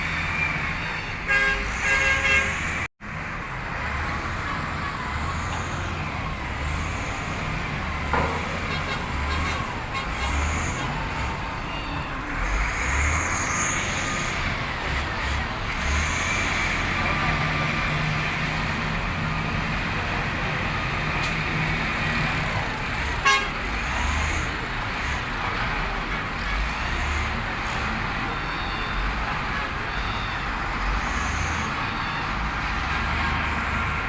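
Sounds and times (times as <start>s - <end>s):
road and cab rumble: 0.0s - 34.0s.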